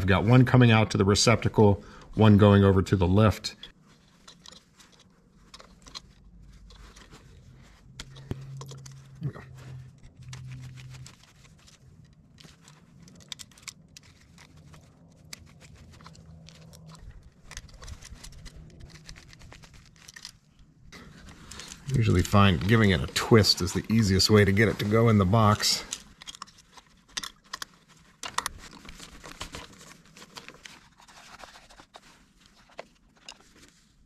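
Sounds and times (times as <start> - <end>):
clicks and scrapes of wiring: 3.6 - 33.8.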